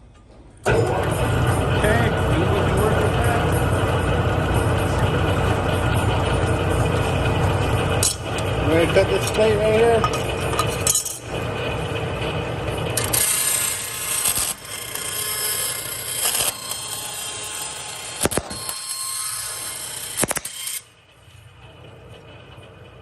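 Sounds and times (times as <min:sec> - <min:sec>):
bandsaw cutting through metal: 0:00.7 - 0:20.9.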